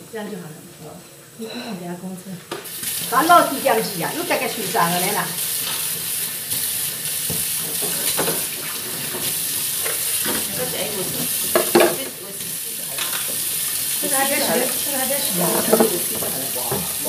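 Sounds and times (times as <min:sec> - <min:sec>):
noodles sizzling in a wok: 0:02.6 - 0:17.0.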